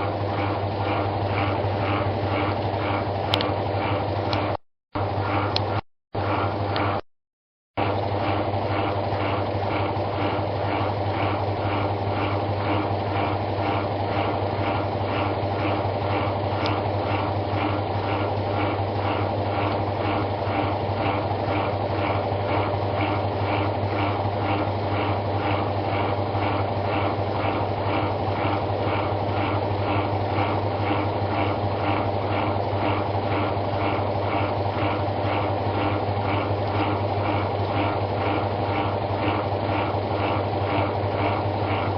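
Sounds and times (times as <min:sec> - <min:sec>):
washing machine running: 0:00.0 - 0:07.1, 0:07.8 - 0:41.9.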